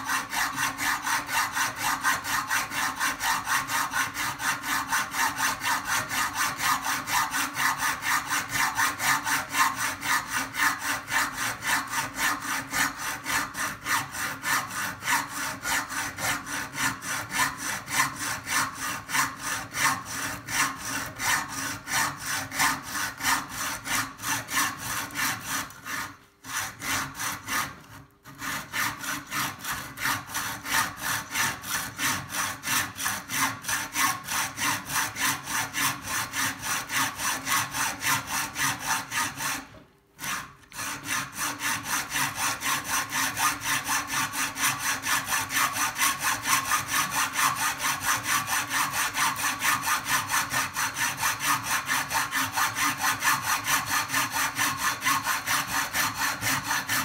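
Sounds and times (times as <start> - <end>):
hacksaw cutting metal: 0.0 - 57.0.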